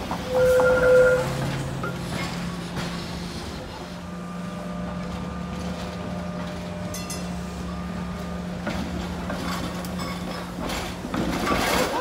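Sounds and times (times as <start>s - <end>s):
light rail vehicle humming: 0.0s - 12.0s
wheel-on-rail noise: 0.0s - 12.0s.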